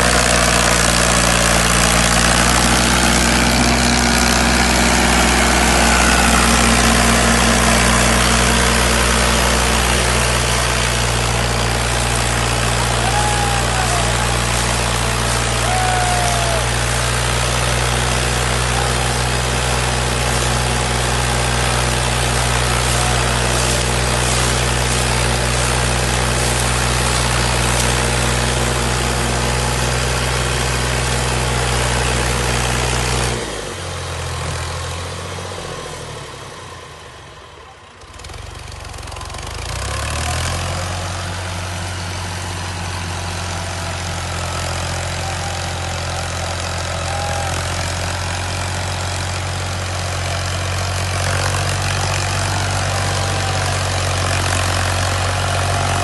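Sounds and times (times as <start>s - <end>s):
heavy farm machine engine running: 0.0s - 56.0s.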